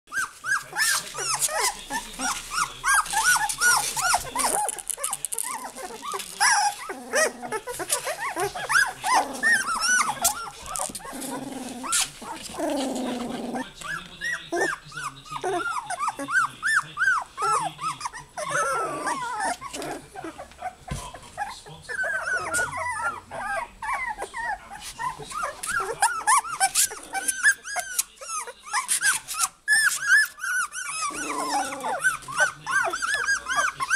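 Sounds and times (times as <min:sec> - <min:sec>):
puppies crying and whining: 0:00.1 - 0:33.9.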